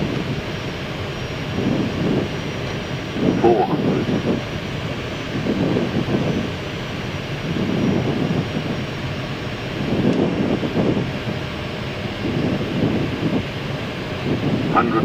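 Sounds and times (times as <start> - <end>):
aircraft engine noise: 0.0 - 15.0
airflow rushing in cockpit: 0.0 - 15.0.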